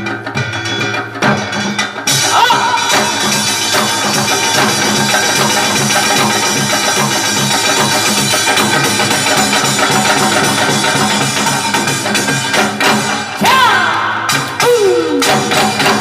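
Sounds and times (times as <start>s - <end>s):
music with fast drumming: 0.0s - 16.0s.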